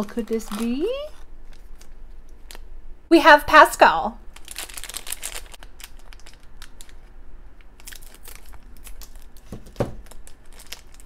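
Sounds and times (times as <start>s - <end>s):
plastic bag crinkling: 0.0s - 2.7s, 4.3s - 11.0s.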